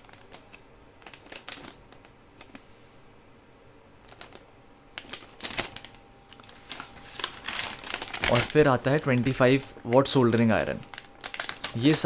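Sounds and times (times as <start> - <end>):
plastic packet clicks and crinkles: 0.0 - 2.7, 4.0 - 12.0.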